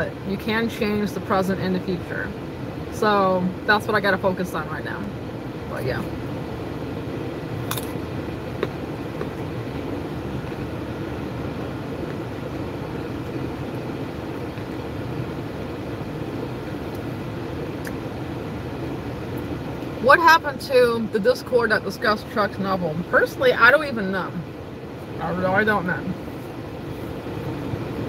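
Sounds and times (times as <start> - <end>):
car cabin hum: 0.0 - 28.0.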